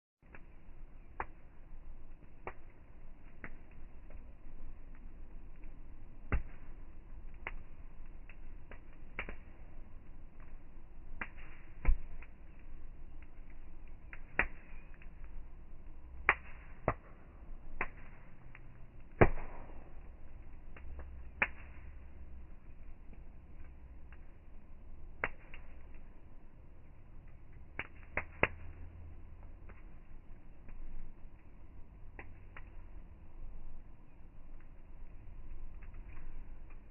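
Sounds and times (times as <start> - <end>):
campfire wood crackling: 0.2 - 36.9
sharp fire pops: 0.2 - 36.9.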